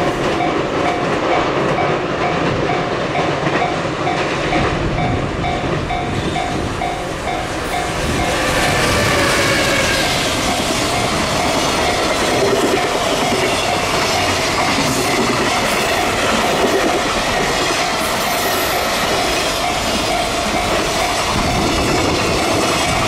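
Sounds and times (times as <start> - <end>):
freight train wheels clacking: 0.0 - 23.0.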